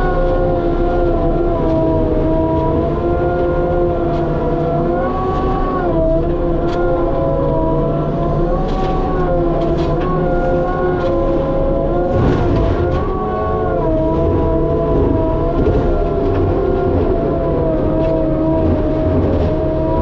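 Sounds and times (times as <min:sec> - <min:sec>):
skid steer engine whining: 0:00.0 - 0:20.0.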